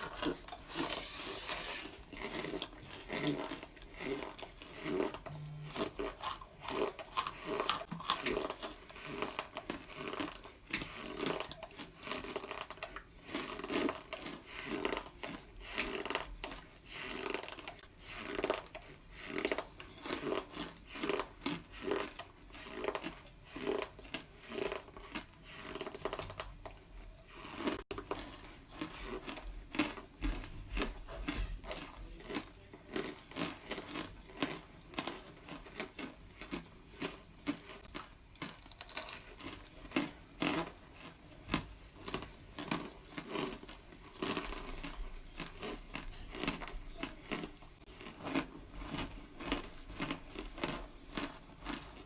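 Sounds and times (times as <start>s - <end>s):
crunchy chewing: 0.0s - 52.0s.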